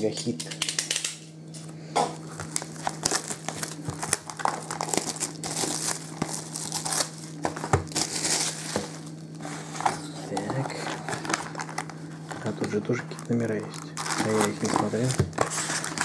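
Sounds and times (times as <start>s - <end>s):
plastic shrink wrap crinkling: 2.3s - 16.0s.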